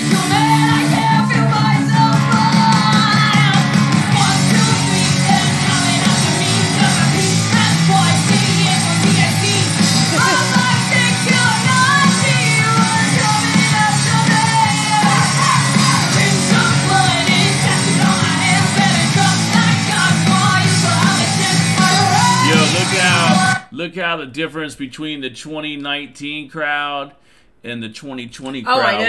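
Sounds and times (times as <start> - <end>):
punk rock band playing: 0.0 - 23.6
woman singing: 0.0 - 23.6.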